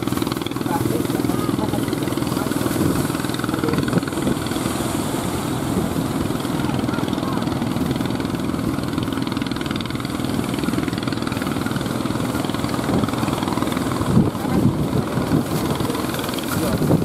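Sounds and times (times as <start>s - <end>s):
boat engine running: 0.0s - 17.0s
surf: 0.0s - 17.0s.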